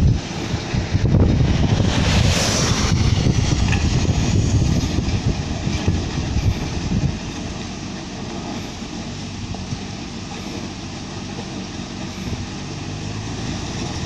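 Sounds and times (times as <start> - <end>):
diesel engine running: 0.0 - 14.0
wind buffeting microphone: 0.0 - 14.0.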